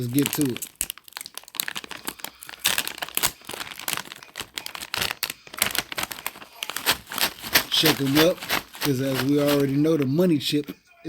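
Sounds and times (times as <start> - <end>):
plastic chip bag crinkling: 0.0 - 10.3.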